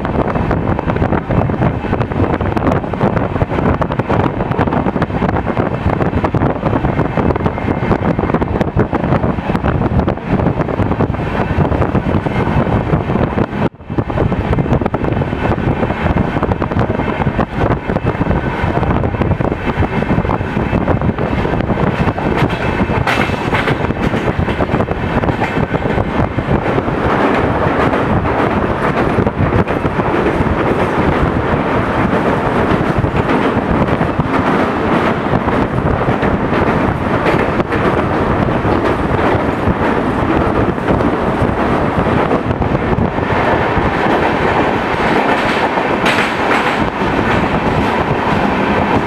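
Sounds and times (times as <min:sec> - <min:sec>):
train wheel and track noise: 0:00.0 - 0:49.0
wind on the microphone: 0:00.0 - 0:49.0.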